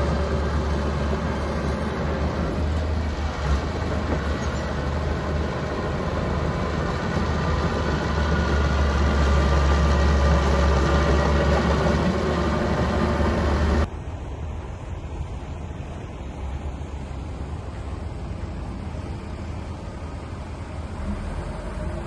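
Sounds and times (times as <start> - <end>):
bulldozer diesel engine running: 0.0 - 13.9, 15.3 - 22.0.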